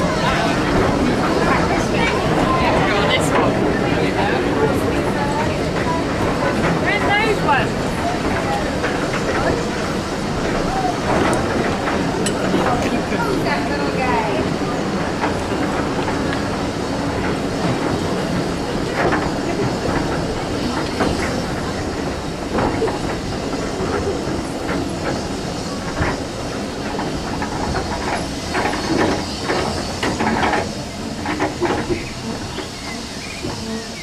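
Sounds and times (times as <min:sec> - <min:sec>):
steam locomotive hissing: 0:00.0 - 0:34.0
train wheels rumbling and clanking: 0:00.0 - 0:34.0.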